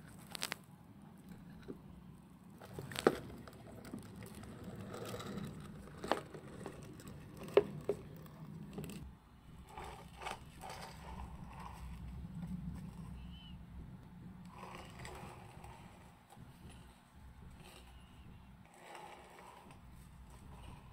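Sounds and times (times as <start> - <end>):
small wheels rolling on boards: 2.5 - 20.9
scraping: 2.6 - 20.9.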